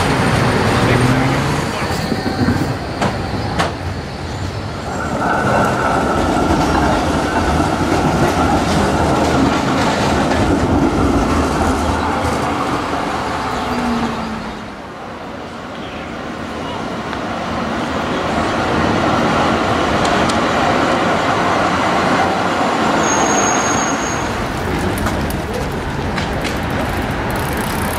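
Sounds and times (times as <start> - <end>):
tram rolling on rails: 0.0 - 27.9.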